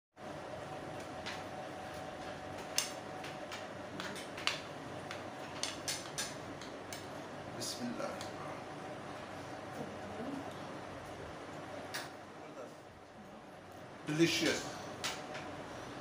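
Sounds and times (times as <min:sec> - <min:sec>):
faint steady hum: 0:00.2 - 0:16.0.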